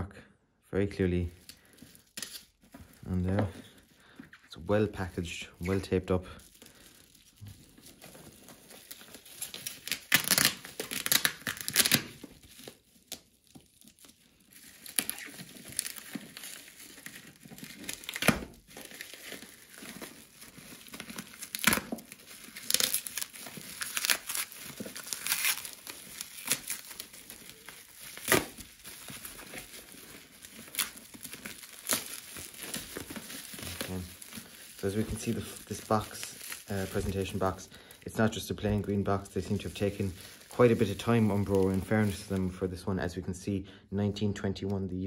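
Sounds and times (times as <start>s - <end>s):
bubble wrap crinkling: 1.2s - 43.1s
plastic tape tearing: 1.4s - 3.5s, 5.6s - 42.4s.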